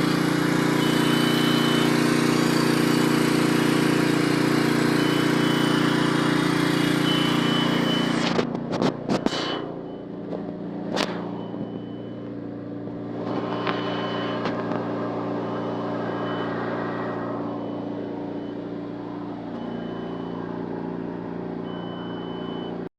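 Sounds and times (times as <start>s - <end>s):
ice cream machine humming: 0.0s - 22.9s
high electronic beep: 0.3s - 8.4s, 9.1s - 10.2s, 11.2s - 12.4s, 13.4s - 18.8s, 19.6s - 21.0s, 21.6s - 22.9s.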